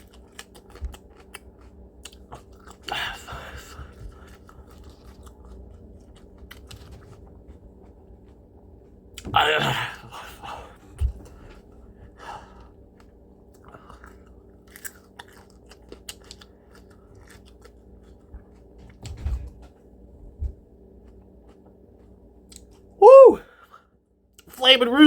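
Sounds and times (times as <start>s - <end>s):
person chewing crunchy food: 0.0s - 19.0s, 19.8s - 22.9s
faint steady hum: 0.0s - 25.0s.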